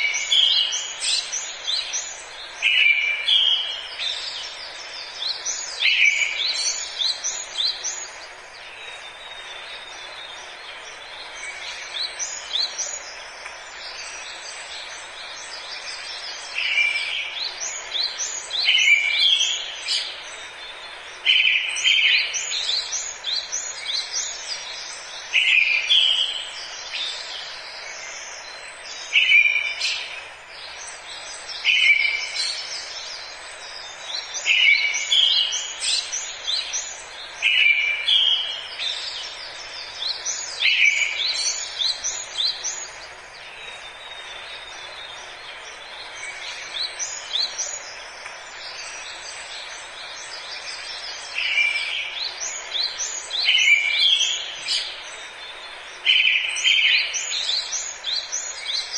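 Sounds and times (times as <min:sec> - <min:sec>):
steady background hiss: 0:00.0 - 0:58.9.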